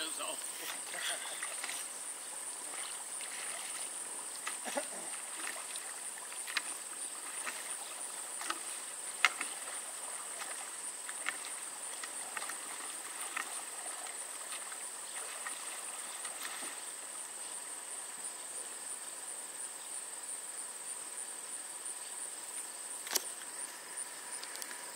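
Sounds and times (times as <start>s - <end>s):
insects chirring: 0.0s - 24.9s.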